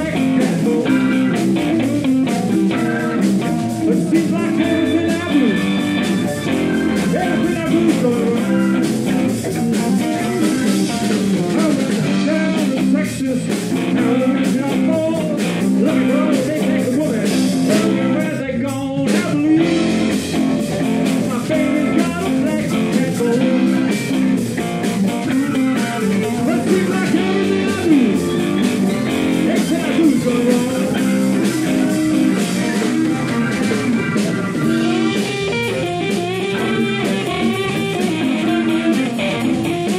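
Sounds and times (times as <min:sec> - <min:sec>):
bass guitar: 0:00.0 - 0:39.9
drum kit: 0:00.0 - 0:39.9
electric guitar: 0:00.0 - 0:39.9
keyboard: 0:00.0 - 0:39.9
person singing: 0:00.0 - 0:39.9.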